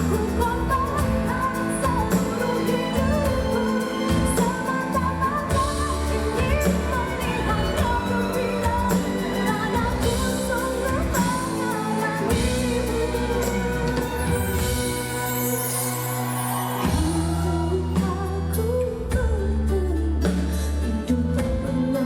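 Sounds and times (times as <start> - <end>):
pop song with singing and drums: 0.0 - 22.0.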